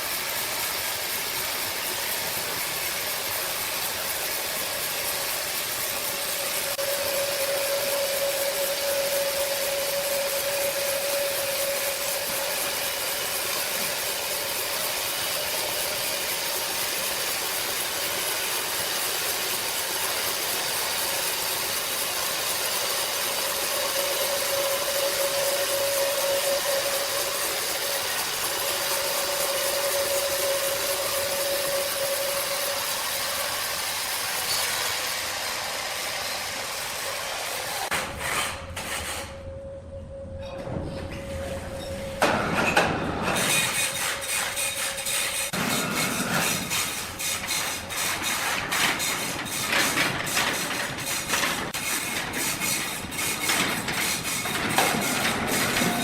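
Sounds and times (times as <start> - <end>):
machine whine: 0.0 - 37.9, 38.6 - 47.9, 54.2 - 56.0
sawmill machinery running: 0.0 - 39.6, 40.6 - 56.0.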